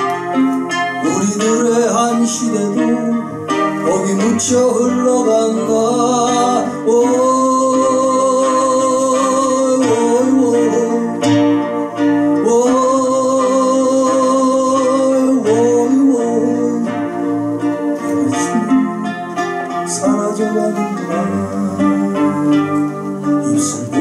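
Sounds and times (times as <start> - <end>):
strummed classical guitar: 0.0 - 24.0
man singing long notes: 1.0 - 24.0.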